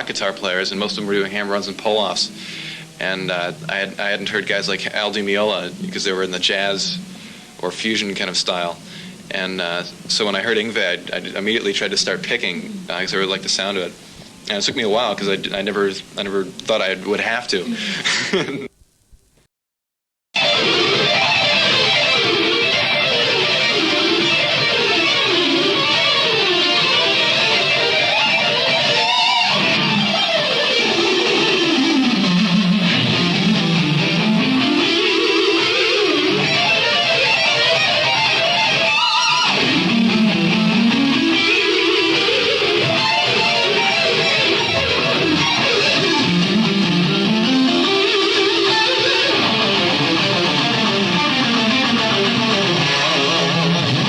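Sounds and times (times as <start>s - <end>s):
rock music with electric guitar: 0.0s - 13.3s, 20.4s - 54.0s.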